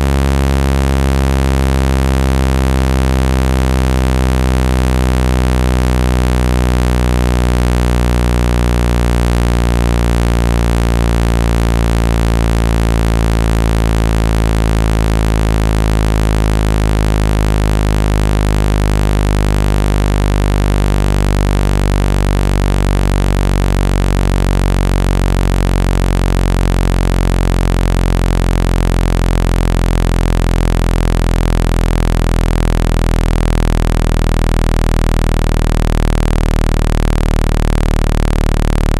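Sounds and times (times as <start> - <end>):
low synthesized buzz: 0.0 - 38.9.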